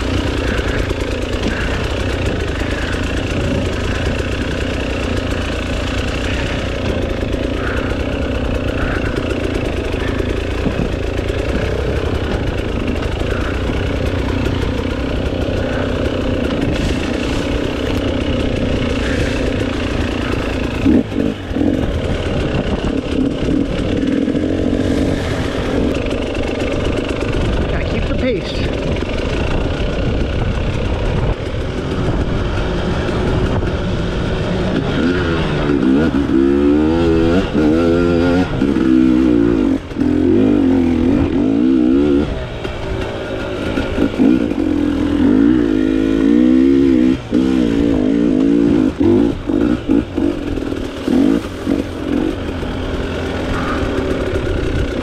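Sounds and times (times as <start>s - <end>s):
two-stroke dirt bike engine revving: 0.0s - 55.0s.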